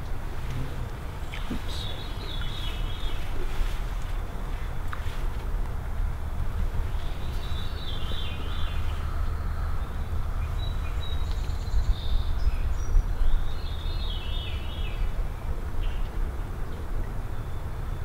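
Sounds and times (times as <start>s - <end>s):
birds singing: 0.0s - 3.8s, 6.8s - 18.0s
wind rumble on microphone: 0.0s - 18.0s.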